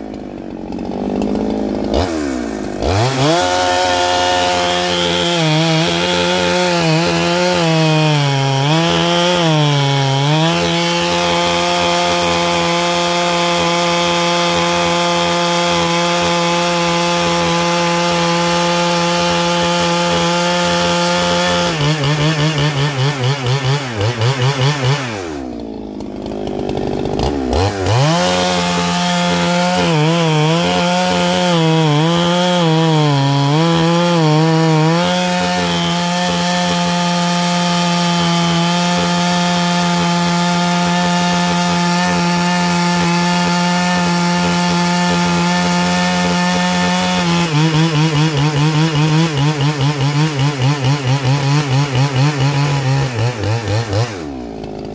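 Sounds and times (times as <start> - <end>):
chainsaw cutting log: 0.0 - 54.9.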